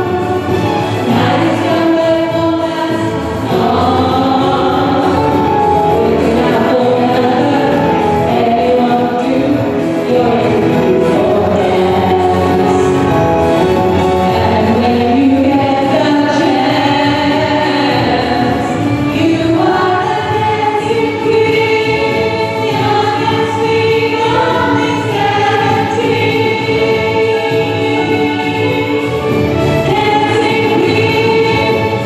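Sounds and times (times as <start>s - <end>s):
women singing in harmony: 0.0s - 32.0s.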